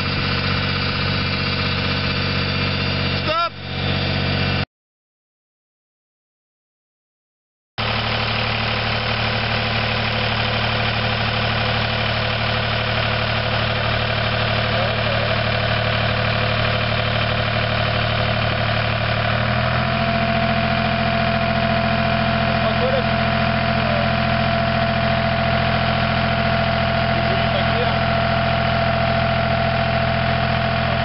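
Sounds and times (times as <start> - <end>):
tractor engine running: 0.0 - 4.6, 7.8 - 31.0.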